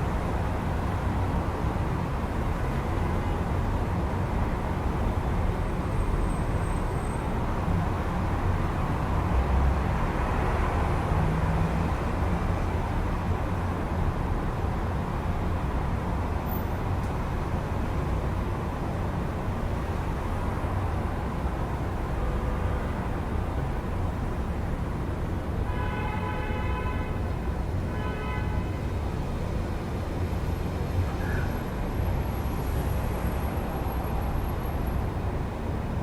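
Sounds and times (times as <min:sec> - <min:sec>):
city street traffic: 0:00.0 - 0:36.0.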